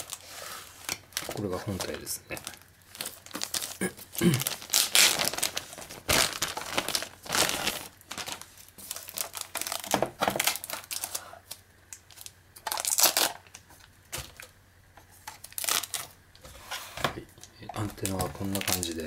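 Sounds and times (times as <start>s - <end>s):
plastic bag crinkling: 0.0s - 14.4s, 15.4s - 16.1s, 17.7s - 19.0s.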